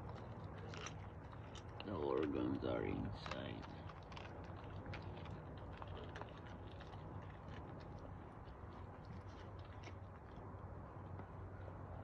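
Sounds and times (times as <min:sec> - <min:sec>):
dog chewing meat: 0:00.0 - 0:12.0
steady low hum: 0:00.0 - 0:12.0.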